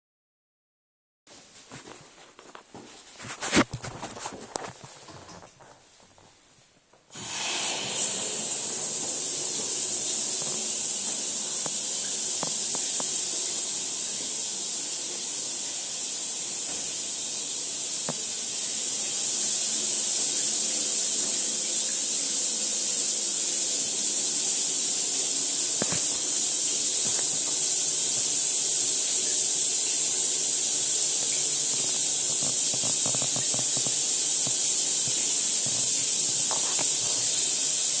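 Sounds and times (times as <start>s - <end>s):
shower water hissing: 7.1s - 38.0s.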